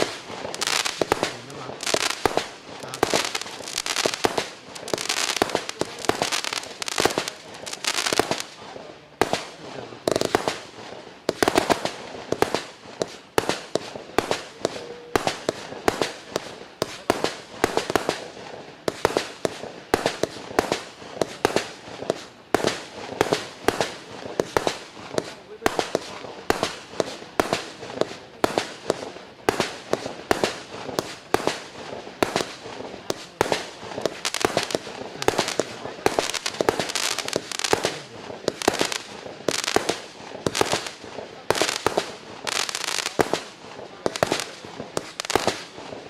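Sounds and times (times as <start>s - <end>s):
fireworks bangs: 0.0s - 46.0s
fireworks crackling: 0.0s - 46.0s.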